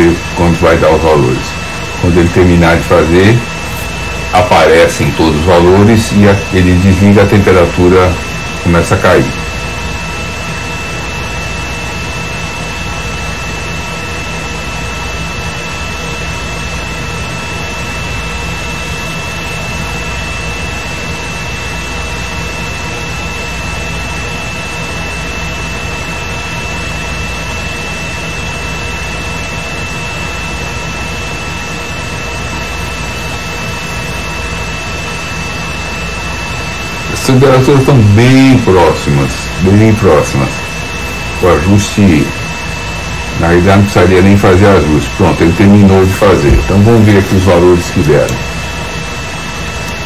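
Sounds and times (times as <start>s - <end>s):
low hum: 0.0s - 50.0s
whirring with high whine: 0.0s - 50.0s.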